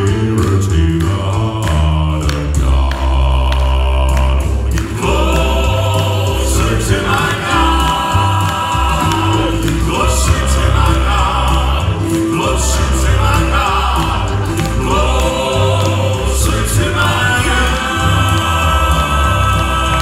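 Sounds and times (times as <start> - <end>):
bass accompaniment: 0.0 - 20.0
men singing in harmony: 0.0 - 20.0.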